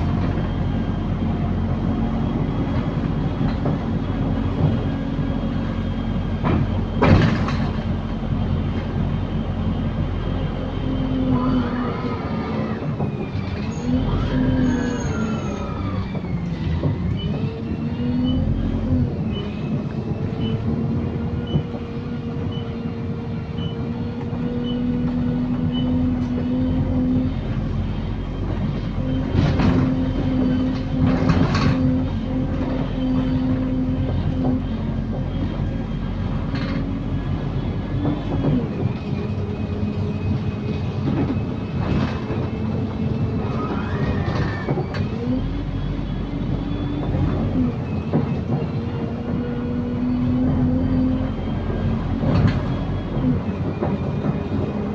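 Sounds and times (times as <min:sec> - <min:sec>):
bus body rattling: 0:00.0 - 0:54.9
bus drivetrain drone and whine: 0:00.0 - 0:54.9.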